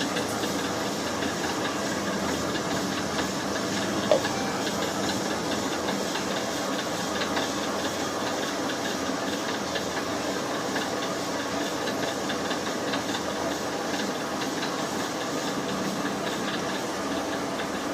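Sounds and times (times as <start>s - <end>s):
machinery running with hiss: 0.0s - 17.9s.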